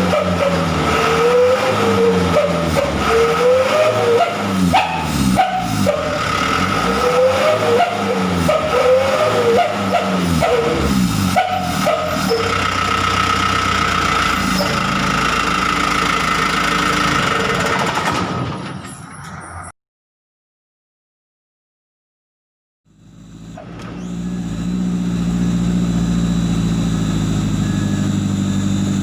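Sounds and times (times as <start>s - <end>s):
diesel truck engine revving: 0.0s - 18.6s, 22.9s - 29.0s.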